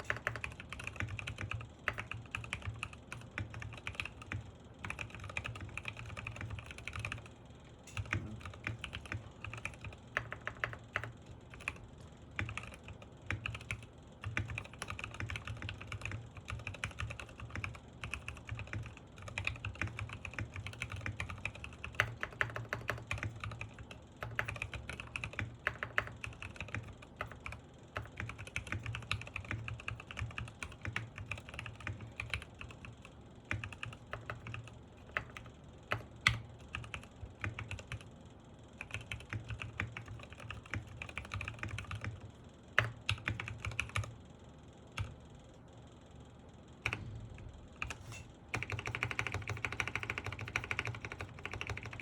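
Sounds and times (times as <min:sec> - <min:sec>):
mechanical keyboard typing: 0:00.0 - 0:38.1, 0:38.8 - 0:44.2, 0:44.9 - 0:45.2, 0:46.8 - 0:47.1, 0:47.8 - 0:52.0.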